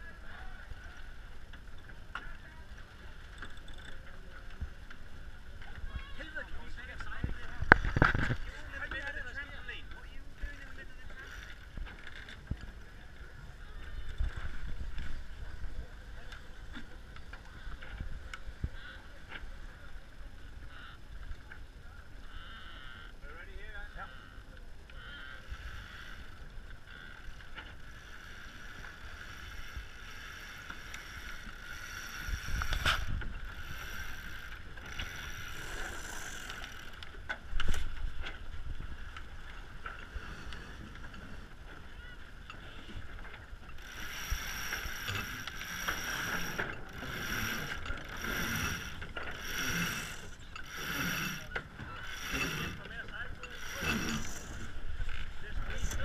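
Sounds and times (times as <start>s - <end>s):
water rushing along hulls: 0.0s - 56.0s.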